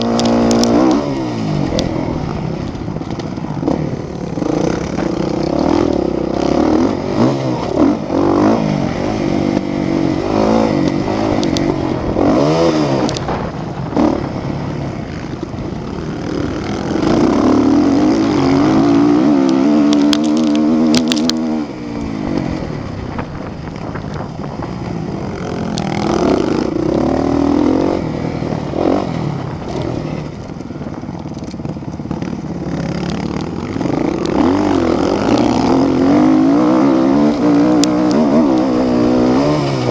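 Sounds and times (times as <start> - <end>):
motocross motorcycles revving: 0.0 - 39.9
motorcycle passing: 0.0 - 39.9.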